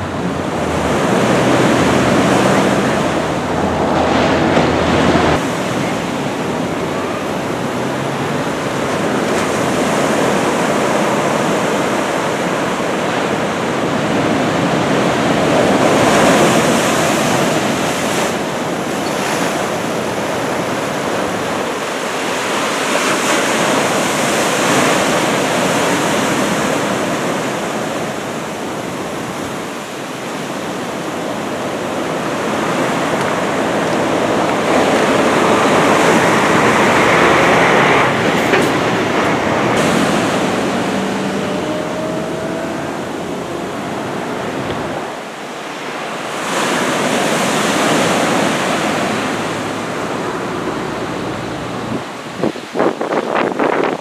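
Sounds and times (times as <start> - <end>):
surf crashing on shore: 0.0 - 54.0
wind buffeting microphone: 0.0 - 54.0.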